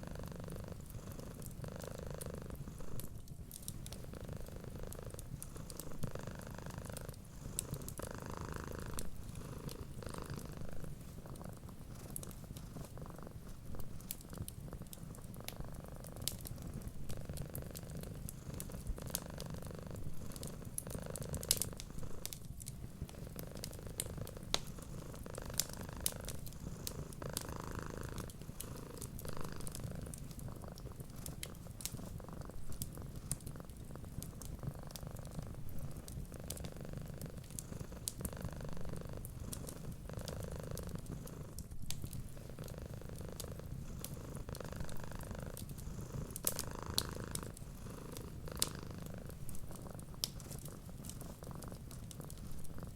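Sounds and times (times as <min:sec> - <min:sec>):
cat purring: 0:00.0 - 0:52.9
wood fire crackling: 0:02.5 - 0:52.9.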